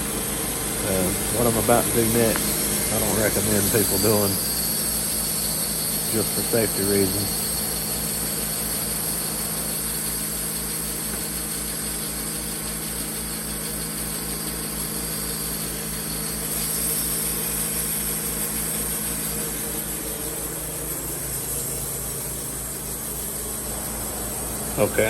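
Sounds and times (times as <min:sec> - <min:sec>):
band sawmill droning: 0:00.0 - 0:25.0.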